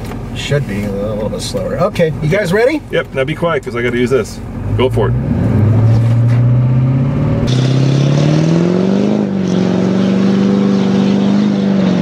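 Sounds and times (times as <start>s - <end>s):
diesel pickup accelerating: 0.0s - 12.0s.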